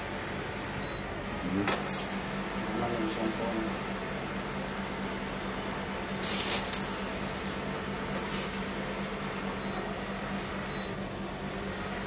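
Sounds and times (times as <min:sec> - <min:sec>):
cooktop fan hum: 0:00.0 - 0:12.0.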